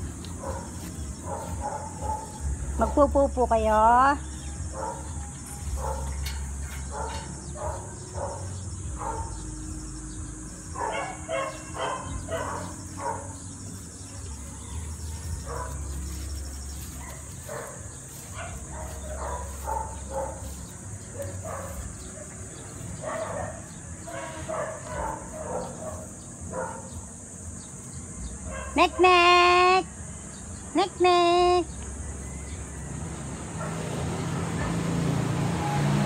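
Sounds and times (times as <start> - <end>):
dogs barking: 0.0 - 27.5, 28.2 - 29.7, 33.4 - 36.0
high insect drone: 0.0 - 36.0.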